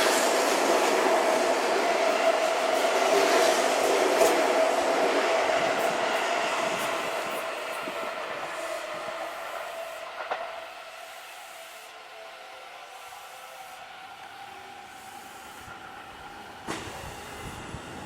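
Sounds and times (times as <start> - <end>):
electric train running: 0.0 - 18.0.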